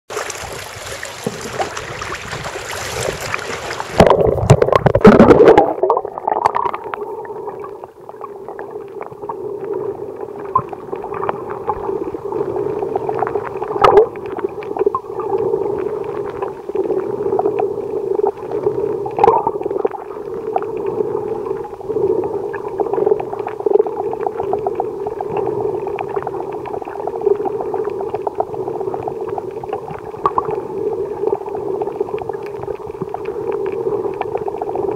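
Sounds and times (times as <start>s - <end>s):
faint underwater clicks and crackles: 0.1s - 34.9s
sea water washing: 0.1s - 34.9s
muffled underwater drone: 0.4s - 34.9s.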